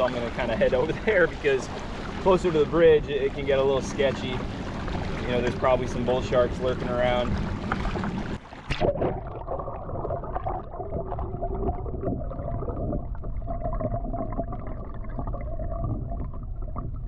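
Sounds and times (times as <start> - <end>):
water gurgling around kayak: 0.0 - 17.0.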